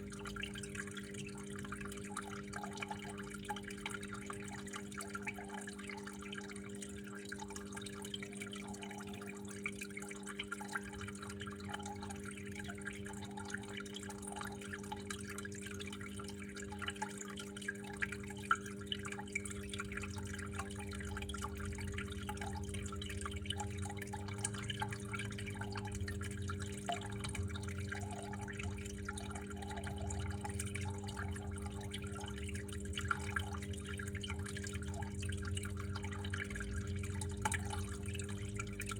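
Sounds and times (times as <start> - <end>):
steady low hum: 0.0 - 38.9
water trickling and dripping: 0.0 - 38.9.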